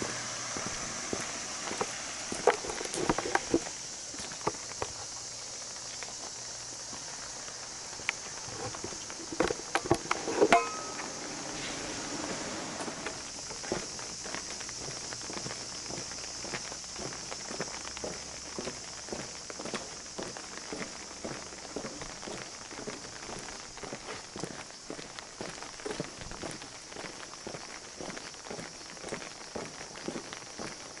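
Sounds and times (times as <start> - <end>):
footsteps walking: 0.0 - 31.0
steady high hiss: 0.0 - 31.0.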